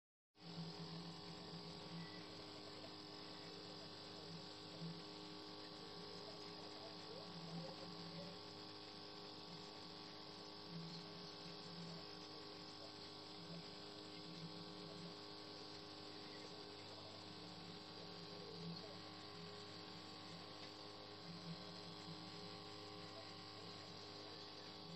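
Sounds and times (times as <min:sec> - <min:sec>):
faint mains hum: 0:00.4 - 0:24.9.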